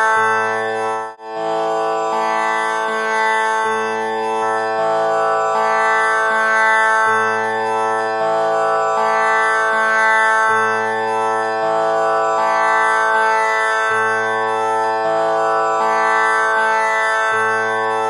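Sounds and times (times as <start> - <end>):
tanpura drone: 0.0 - 18.0.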